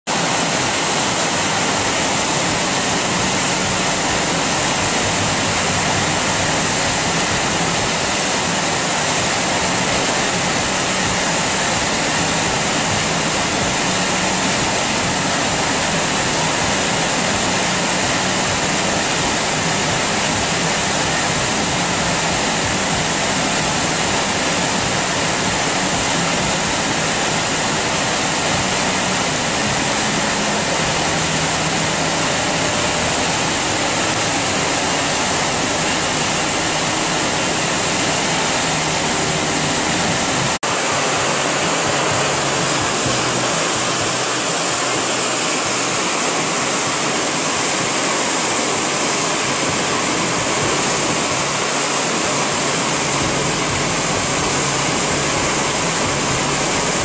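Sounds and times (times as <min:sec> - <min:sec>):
water rushing over rocks: 0:00.1 - 0:57.0.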